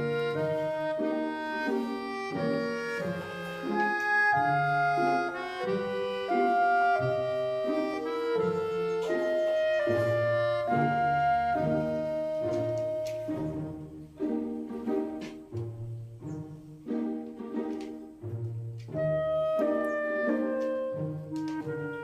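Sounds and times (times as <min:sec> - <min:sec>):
instrumental background music: 0:00.0 - 0:22.0.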